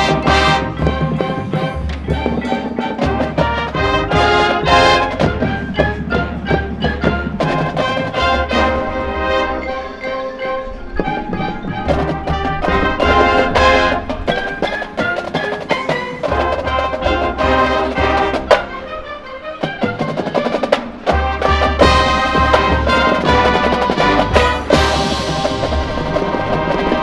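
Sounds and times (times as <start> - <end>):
drum strikes: 0.0 - 9.6, 11.0 - 18.8, 19.7 - 27.0
marching band playing: 0.0 - 27.0.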